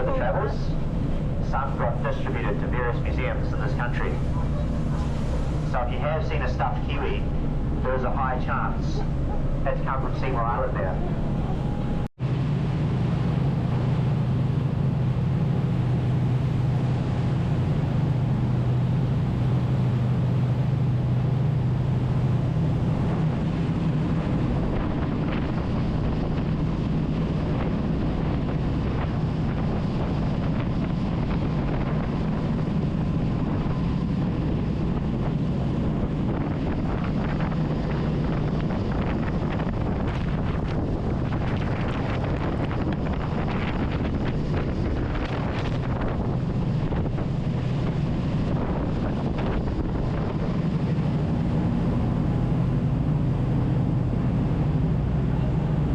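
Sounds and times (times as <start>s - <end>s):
boat engine humming: 0.0s - 55.9s
wind buffeting microphone: 0.0s - 55.9s.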